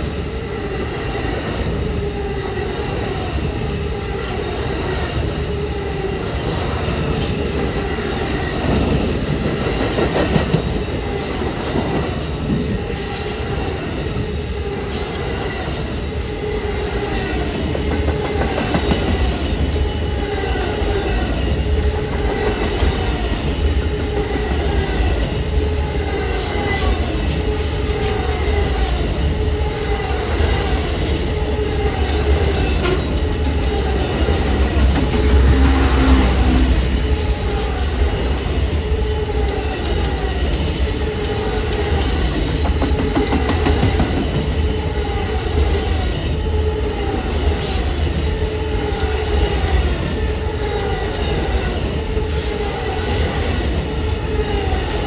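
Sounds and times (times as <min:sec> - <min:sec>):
railroad cars rumbling: 0:00.0 - 0:55.0.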